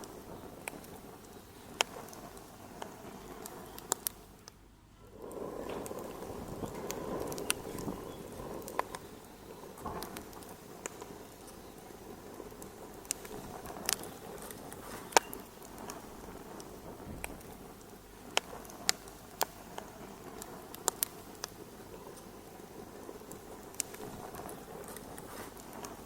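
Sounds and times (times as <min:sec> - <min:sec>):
fire crackling in a fireplace: 0:00.0 - 0:26.0.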